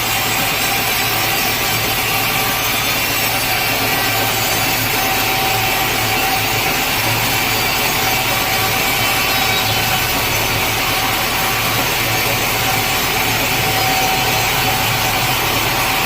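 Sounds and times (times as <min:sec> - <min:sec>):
saw cutting through log: 0:00.0 - 0:16.0.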